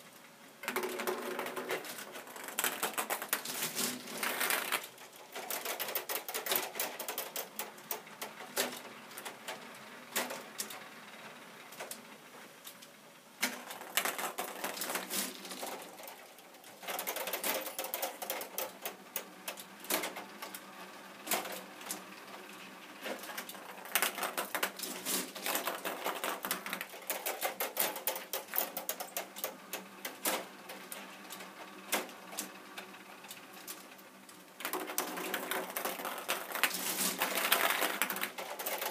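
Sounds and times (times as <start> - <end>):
plastic mechanism clicking and clattering: 0.6 - 9.6, 13.4 - 20.6, 23.0 - 33.8, 34.6 - 38.9.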